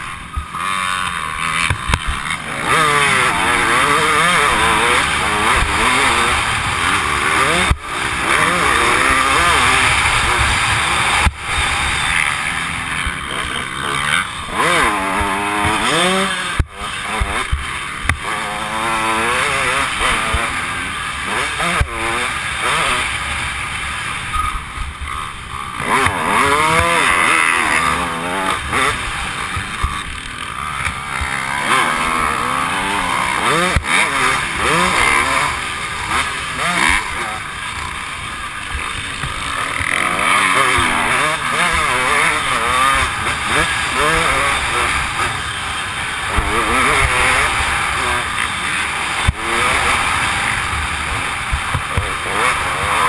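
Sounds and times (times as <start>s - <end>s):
dirt bike engine revving: 0.0s - 53.0s
track noise: 0.0s - 53.0s.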